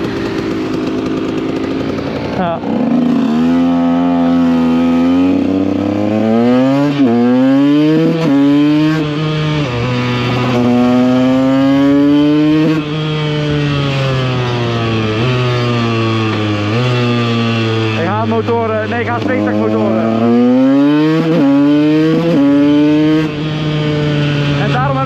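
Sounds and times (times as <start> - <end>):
two-stroke motorcycle engine: 0.0 - 25.0.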